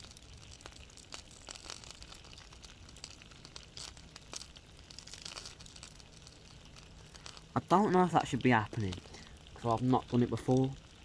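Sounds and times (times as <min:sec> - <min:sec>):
crackles and pops: 0:00.0 - 0:11.0
food sizzling in foil: 0:00.0 - 0:11.0
low hiss: 0:00.0 - 0:11.0.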